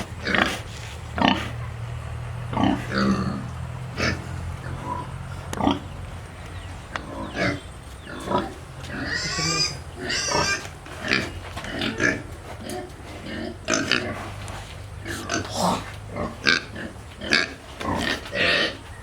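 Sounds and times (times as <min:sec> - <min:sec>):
pigs grunting and squealing: 0:00.0 - 0:19.0.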